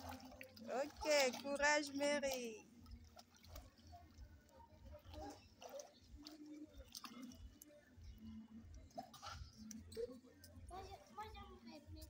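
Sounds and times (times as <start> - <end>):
faint pool water splashing: 0.0 - 12.0.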